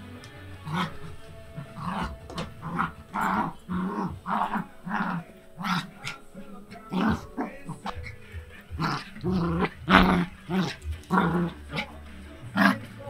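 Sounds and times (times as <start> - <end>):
puppies growling: 0.0 - 13.0.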